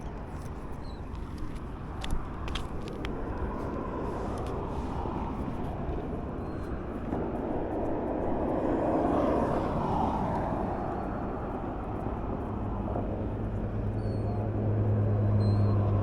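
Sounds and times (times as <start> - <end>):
steady traffic rush: 0.0 - 16.0.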